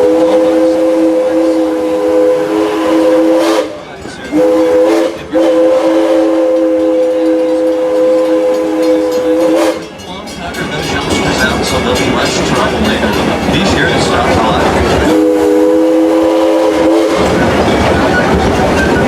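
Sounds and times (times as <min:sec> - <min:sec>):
steam locomotive chime whistle: 0:00.0 - 0:19.0.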